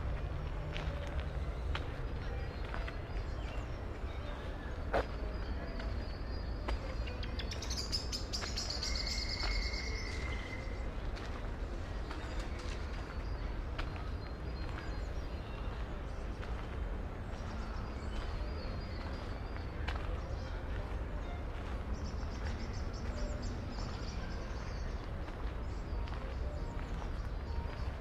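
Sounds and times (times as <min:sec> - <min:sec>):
city rumble: 0:00.0 - 0:28.0
small birds chirping: 0:01.8 - 0:28.0.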